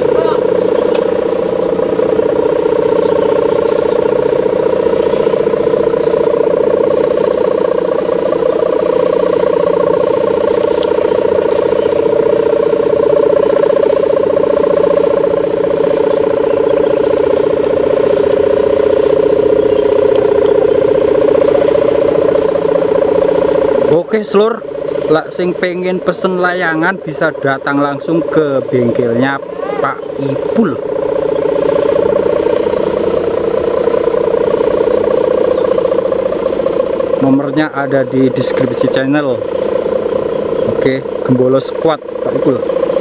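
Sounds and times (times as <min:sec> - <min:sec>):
kite hummer buzzing drone: 0:00.0 - 0:43.0.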